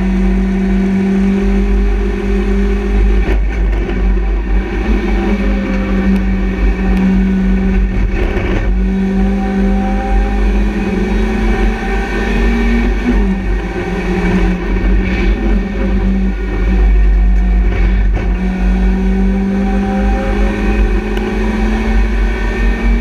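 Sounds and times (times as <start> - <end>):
race car engine under load: 0.0 - 23.0.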